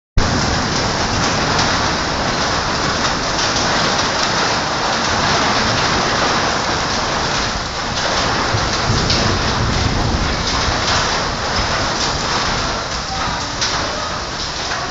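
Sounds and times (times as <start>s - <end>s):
heavy rain falling: 0.2s - 14.9s.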